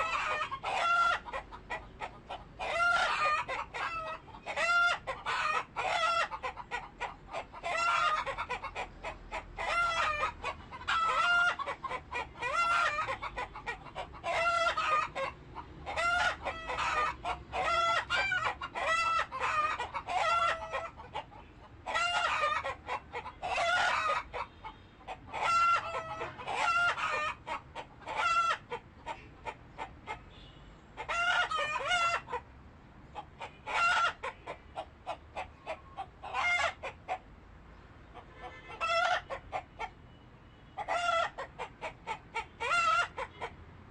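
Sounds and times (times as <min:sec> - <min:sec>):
chickens clucking and cackling: 0:00.0 - 0:43.9.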